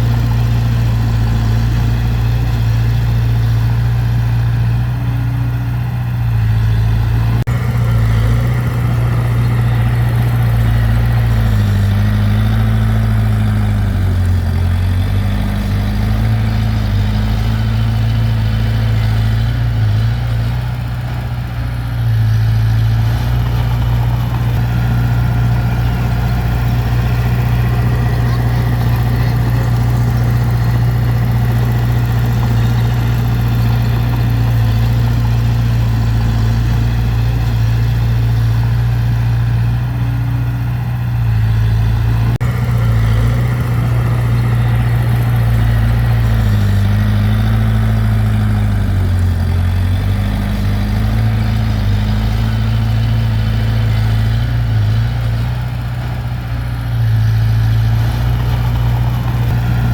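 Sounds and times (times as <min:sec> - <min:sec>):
large diesel engine running: 0:00.0 - 0:59.9.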